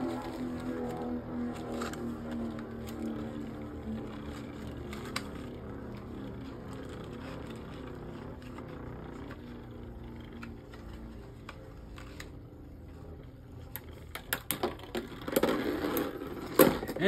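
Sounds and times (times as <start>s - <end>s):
spinning tops whirring: 0.0s - 17.0s.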